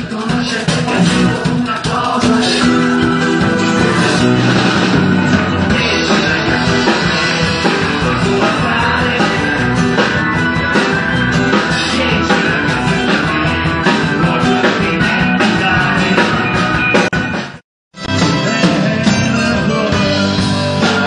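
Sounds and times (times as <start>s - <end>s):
bass: 0.0s - 21.0s
drum kit: 0.0s - 21.0s
electric guitar: 0.0s - 21.0s
keyboards: 0.0s - 21.0s.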